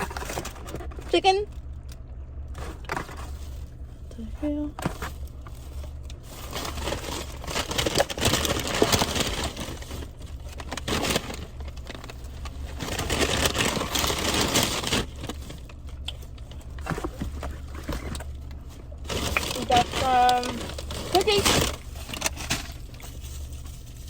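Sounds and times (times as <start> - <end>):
food packaging rustling: 0.0 - 24.0
steady low hum: 0.0 - 24.0.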